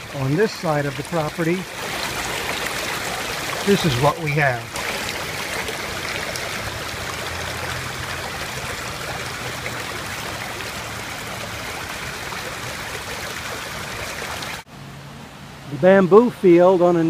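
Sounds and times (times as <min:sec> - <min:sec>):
running water: 0:00.0 - 0:14.7.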